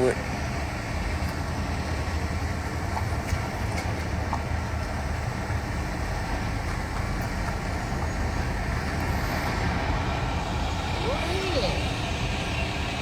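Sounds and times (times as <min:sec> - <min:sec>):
heavy vehicle engine rumbling: 0:00.0 - 0:13.0
street traffic: 0:00.0 - 0:13.0.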